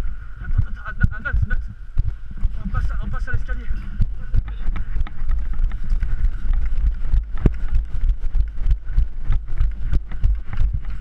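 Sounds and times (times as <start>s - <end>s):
hurried footsteps: 0.0s - 11.0s
microphone rumbling and knocking: 0.0s - 11.0s.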